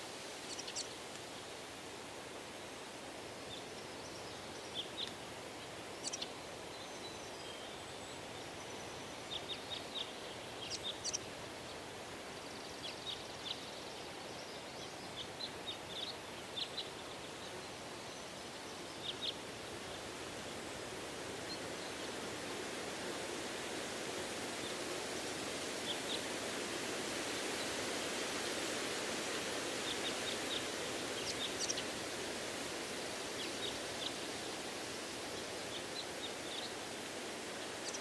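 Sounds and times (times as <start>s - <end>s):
wind rustling through trees: 0.0s - 38.0s
small birds chirping: 0.4s - 1.3s, 2.6s - 27.8s, 29.2s - 38.0s.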